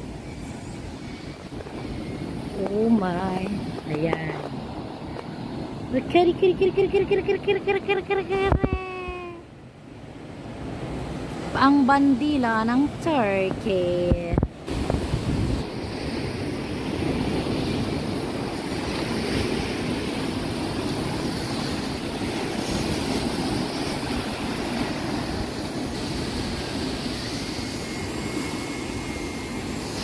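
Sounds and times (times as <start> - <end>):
wind on microphone: 0.0 - 9.5, 10.6 - 30.0.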